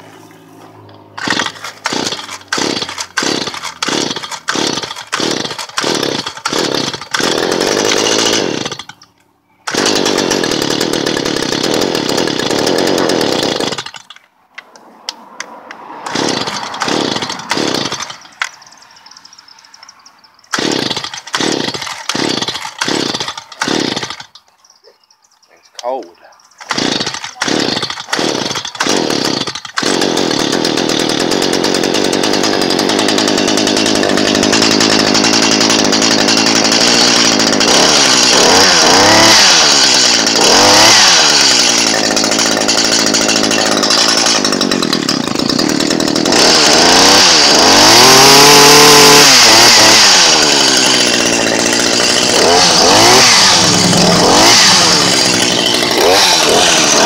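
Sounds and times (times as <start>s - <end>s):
hedge trimmer engine revving: 0.0s - 24.3s, 26.6s - 57.0s.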